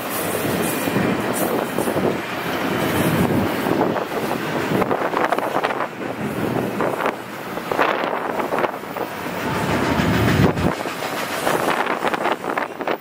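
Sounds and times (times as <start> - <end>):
steel wheels on rail: 0.0 - 13.0
wind buffeting microphone: 0.4 - 13.0.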